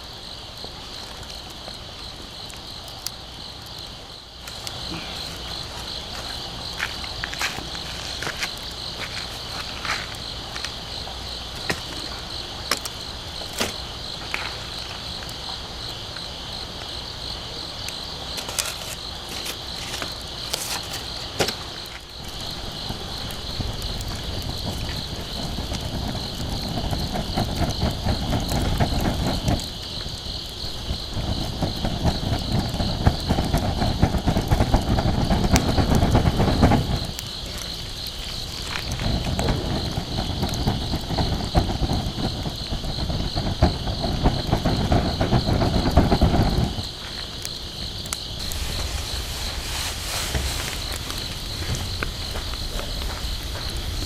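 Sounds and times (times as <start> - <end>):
campfire crackling: 0.0 - 54.0
insects chirring: 0.0 - 54.0.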